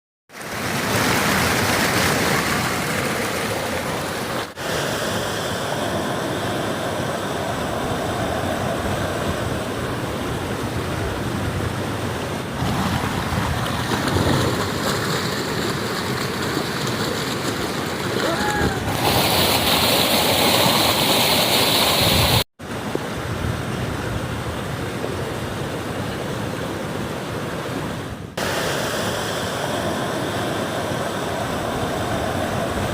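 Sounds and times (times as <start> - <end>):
heavy rain and rushing water: 0.3 - 32.9.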